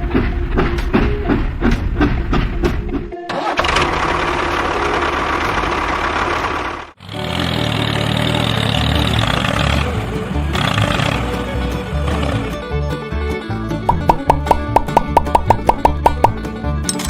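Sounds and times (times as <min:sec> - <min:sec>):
engine running: 0:03.3 - 0:17.0.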